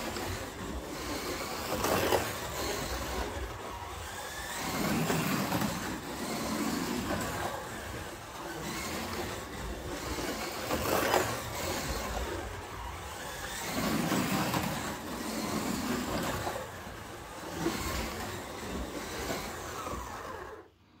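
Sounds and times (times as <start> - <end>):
slot car motors whirring: 0.0 - 20.9.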